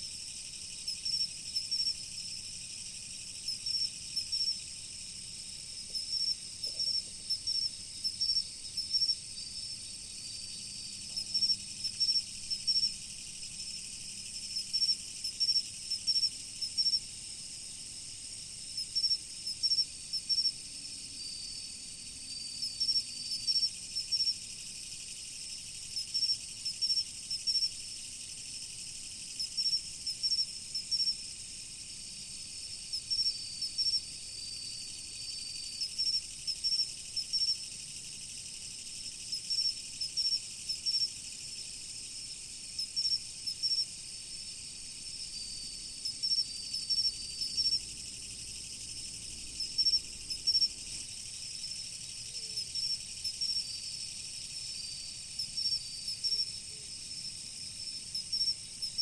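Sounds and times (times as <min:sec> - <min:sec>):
crickets ringing and chirping: 0:00.0 - 0:59.0.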